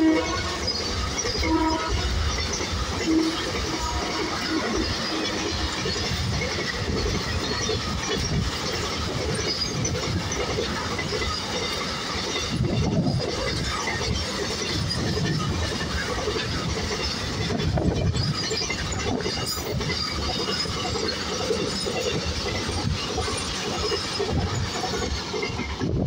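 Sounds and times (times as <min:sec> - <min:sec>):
steel train wheels on rail: 0:00.0 - 0:26.0.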